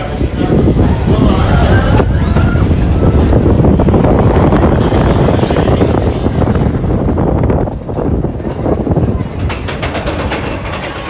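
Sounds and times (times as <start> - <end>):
roller coaster rumbling on track: 0.0 - 11.0
wind buffeting microphone: 0.0 - 11.0.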